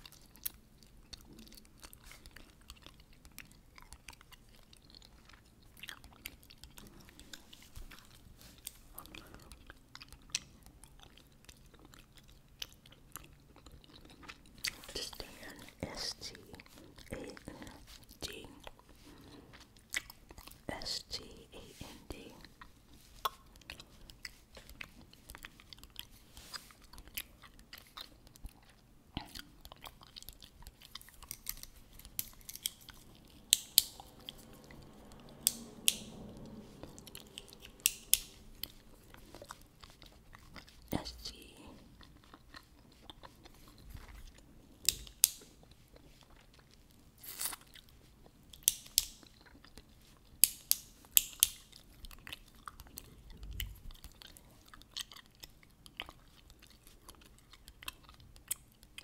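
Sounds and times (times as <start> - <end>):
gum clicks and snaps: 0.0 - 21.4, 22.1 - 59.0
gum chewing mouth smacks: 0.0 - 59.0.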